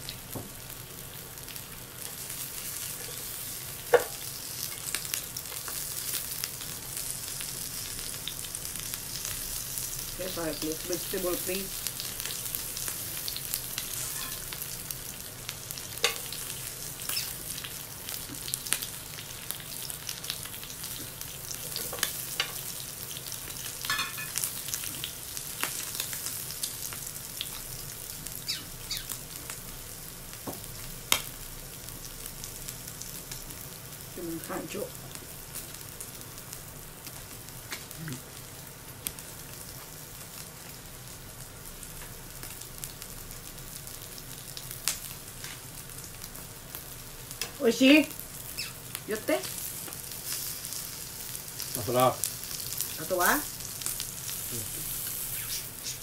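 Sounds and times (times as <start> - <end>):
meat sizzling on a grill: 0.0 - 56.0.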